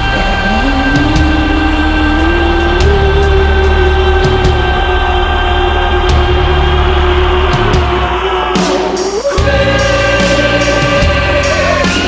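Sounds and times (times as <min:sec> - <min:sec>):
music with long sustained notes: 0:00.0 - 0:12.0.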